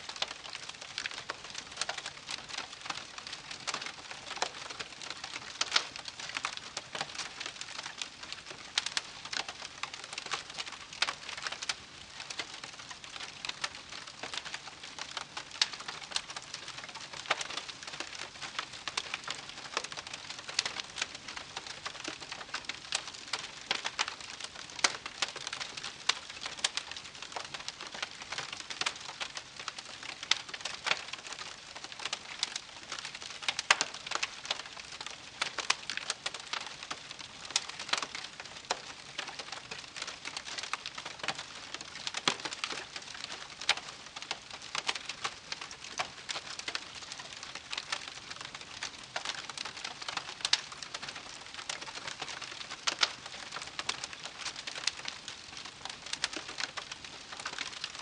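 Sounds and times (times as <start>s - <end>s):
campfire crackling and popping: 0.1s - 58.0s.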